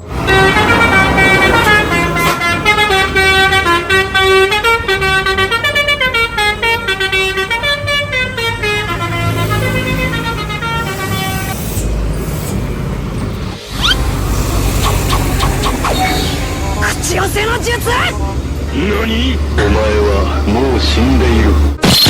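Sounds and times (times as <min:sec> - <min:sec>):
low engine rumble: 0:00.0 - 0:21.8
multi-tone bus horn melody: 0:00.0 - 0:21.8.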